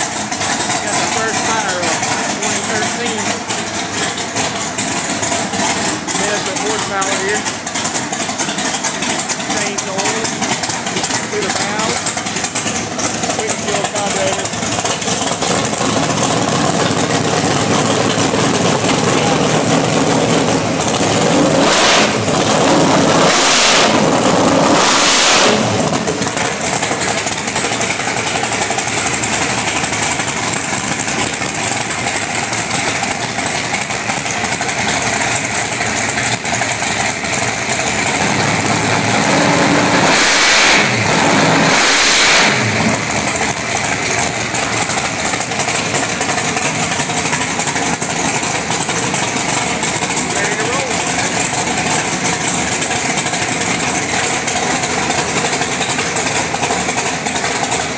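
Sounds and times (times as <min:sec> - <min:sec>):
drag race engine idling: 0:00.0 - 0:57.9
engine throttle blips: 0:00.0 - 0:57.9.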